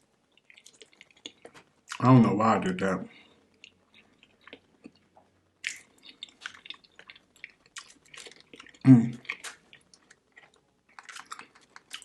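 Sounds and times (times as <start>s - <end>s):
wet chewing and lip smacking: 0.3s - 2.0s, 3.5s - 12.0s.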